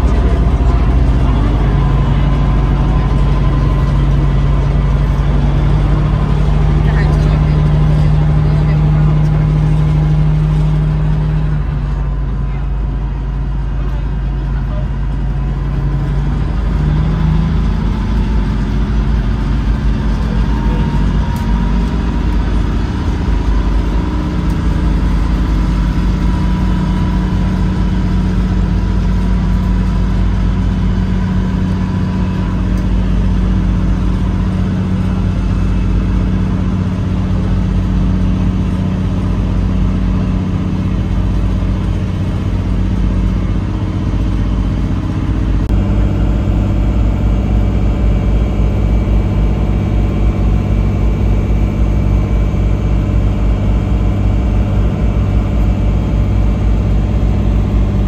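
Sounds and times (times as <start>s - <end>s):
boat engine humming: 0.0s - 58.0s
water rushing along hull: 0.0s - 58.0s.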